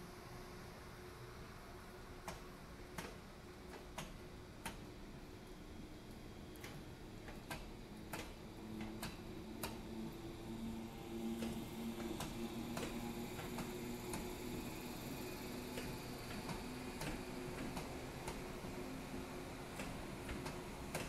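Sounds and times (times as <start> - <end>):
train wheels clicking on track: 2.2 - 5.0, 6.1 - 21.0.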